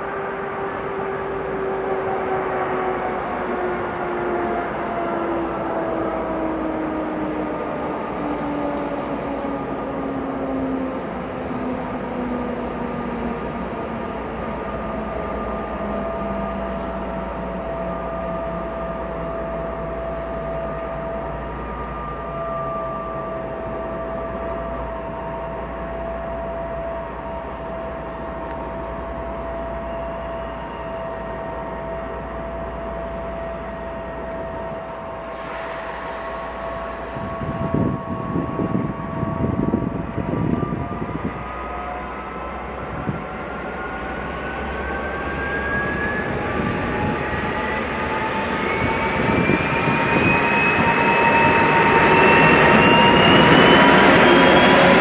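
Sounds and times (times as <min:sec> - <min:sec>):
diesel locomotive engine whining: 0:00.0 - 0:55.0.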